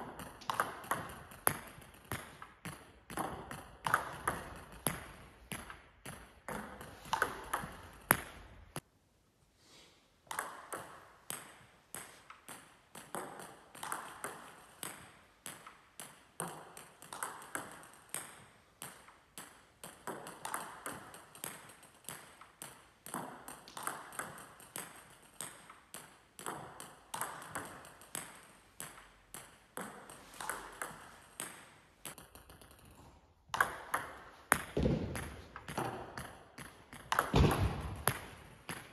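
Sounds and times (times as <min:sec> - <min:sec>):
ball bouncing on table: 0:00.0 - 0:08.8, 0:10.3 - 0:32.9, 0:33.5 - 0:38.9.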